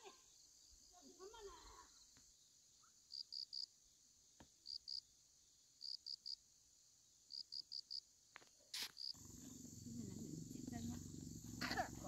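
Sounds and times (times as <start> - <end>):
crickets chirping: 0.0 - 12.0
high insect drone: 0.0 - 12.0.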